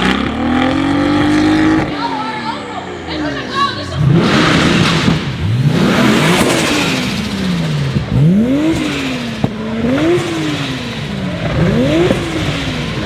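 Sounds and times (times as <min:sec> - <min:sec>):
sports car engine revving: 0:00.0 - 0:02.2, 0:03.8 - 0:13.0.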